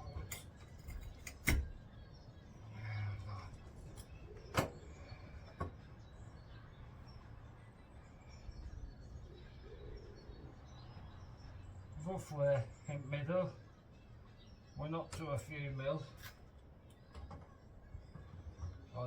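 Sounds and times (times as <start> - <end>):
outdoor background noise: 0.0 - 19.0
faint bird chirps: 1.1 - 19.0.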